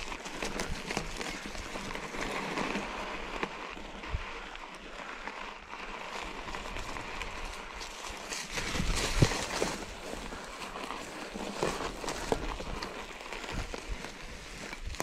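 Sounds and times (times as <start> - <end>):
bike clicks and rattles: 0.0 - 15.0
bike tyres on rough ground: 0.0 - 15.0.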